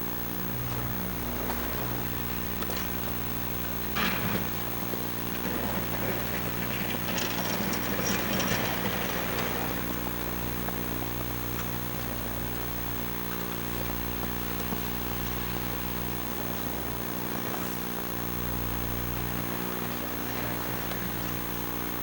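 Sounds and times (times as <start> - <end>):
electrical buzz: 0.0 - 22.0.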